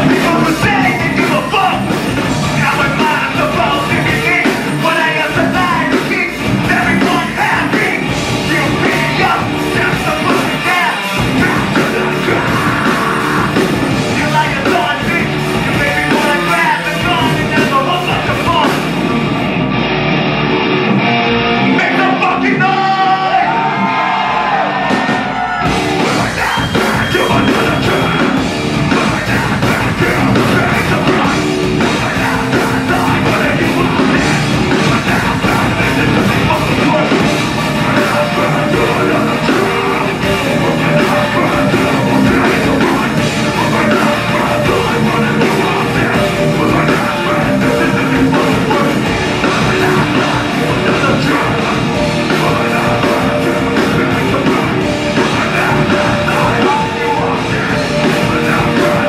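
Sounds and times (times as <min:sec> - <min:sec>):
bass guitar: 0:00.0 - 0:59.0
distorted electric guitar: 0:00.0 - 0:59.0
drum kit: 0:00.0 - 0:59.0
keyboard: 0:00.0 - 0:59.0.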